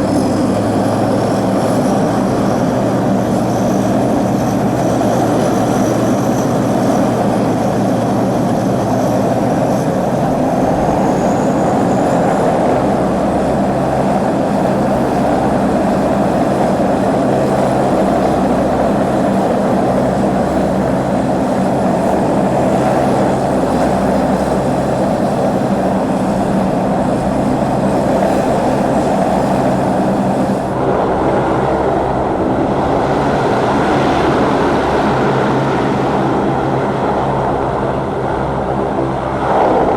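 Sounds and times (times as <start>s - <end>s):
aircraft engines roaring: 0.0s - 39.9s.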